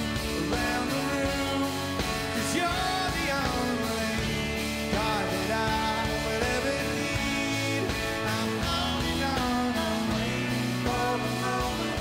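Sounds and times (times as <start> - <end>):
gliding lead melody: 0.0 - 12.0
live rock band playing: 0.0 - 12.0
strummed acoustic guitar: 0.0 - 12.0.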